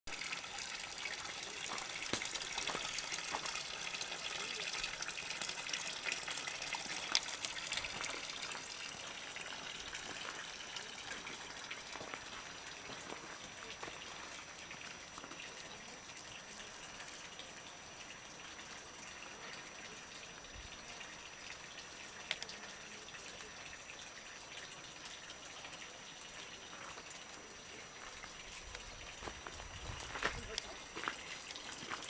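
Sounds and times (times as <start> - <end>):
water trickling into trough: 0.1 - 32.0.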